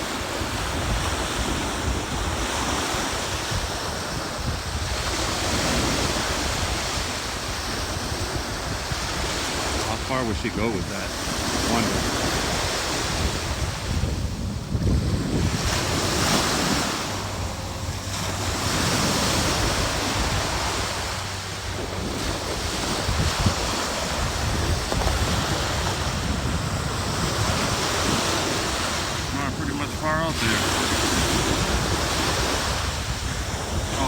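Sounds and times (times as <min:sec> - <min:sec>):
ocean surf breaking: 0:00.0 - 0:34.0
wind buffeting microphone: 0:00.0 - 0:34.0.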